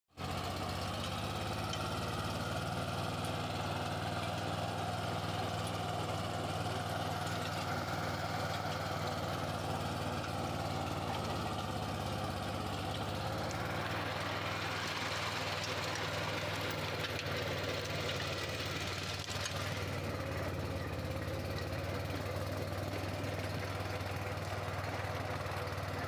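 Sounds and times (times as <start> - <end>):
rotary tiller in soil: 0.2 - 26.0
tractor diesel engine running: 0.2 - 26.0.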